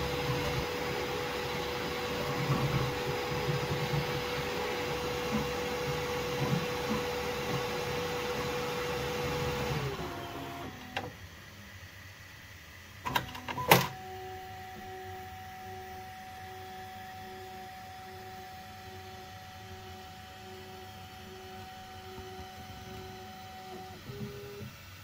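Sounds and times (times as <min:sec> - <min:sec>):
printer whirring with whine: 0:00.0 - 0:25.0.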